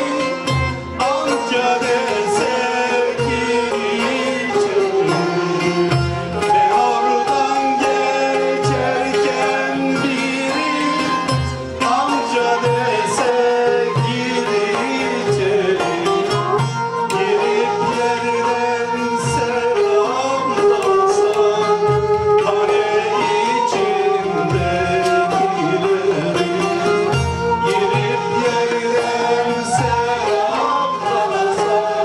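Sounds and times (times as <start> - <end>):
folk ensemble playing: 0.0 - 32.0
person singing: 0.0 - 32.0.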